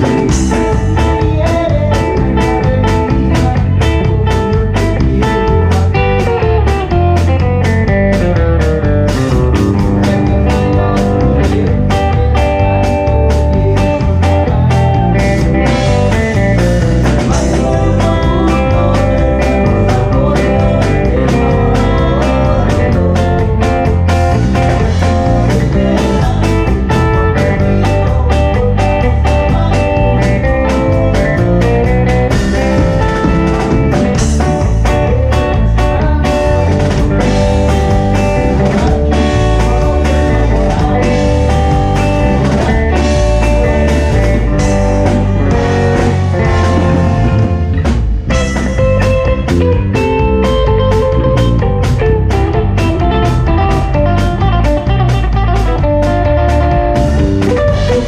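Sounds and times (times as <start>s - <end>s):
electric guitar: 0.0s - 58.0s
live band playing: 0.0s - 58.0s.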